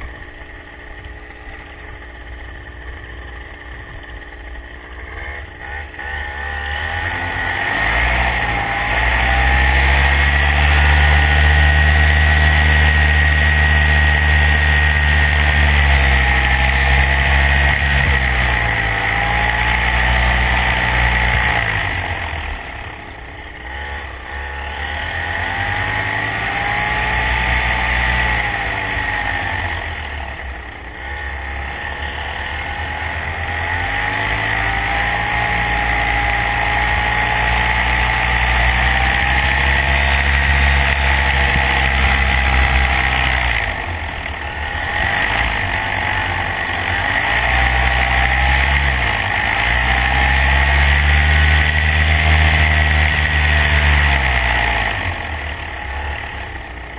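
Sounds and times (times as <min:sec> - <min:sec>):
steady high whine: 0:00.0 - 0:56.9
vehicle engine running: 0:00.0 - 0:56.9.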